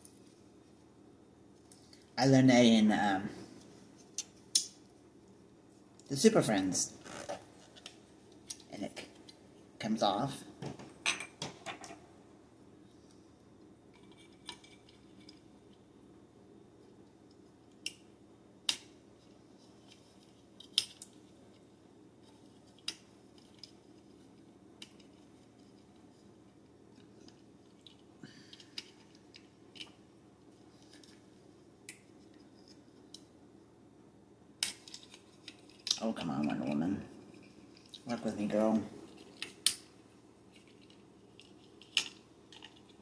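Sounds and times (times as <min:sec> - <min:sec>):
faint room hum: 0:00.0 - 0:43.0.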